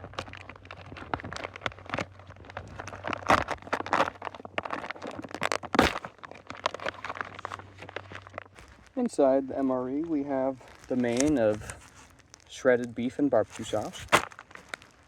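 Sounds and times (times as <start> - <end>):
plastic pouch crinkling: 0.0 - 15.0.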